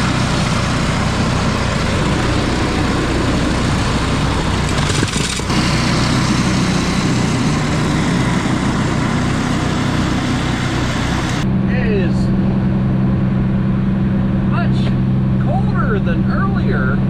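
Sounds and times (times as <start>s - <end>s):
gasoline engine running: 0.0s - 17.0s.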